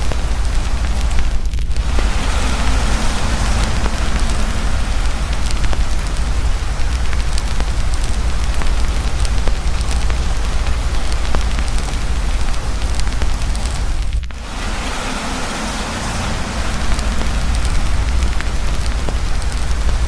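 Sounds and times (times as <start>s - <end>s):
campfire crackling: 0.0s - 20.0s
deep steady rumble: 0.0s - 20.0s
heavy rain pouring: 0.0s - 20.0s.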